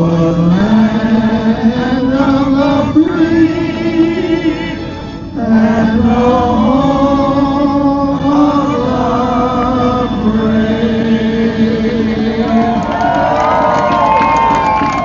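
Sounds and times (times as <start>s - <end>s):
man singing long held notes: 0.0s - 13.9s.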